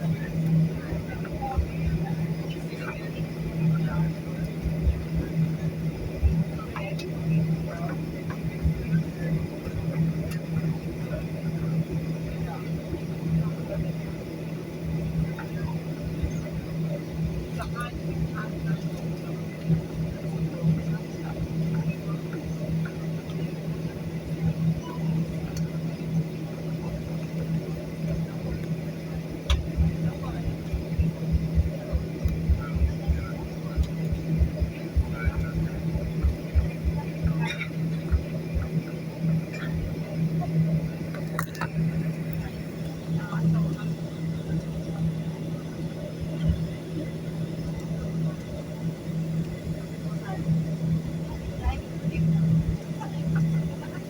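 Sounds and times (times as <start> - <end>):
airliner engine drone in cabin: 0.0 - 54.0.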